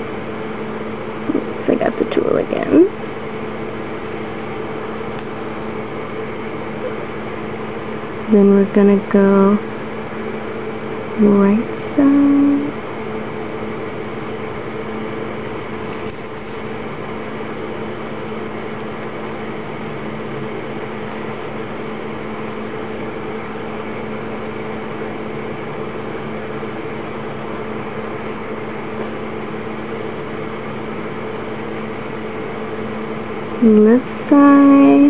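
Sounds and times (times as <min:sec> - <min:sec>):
mechanical hum and hiss: 0:00.0 - 0:35.0.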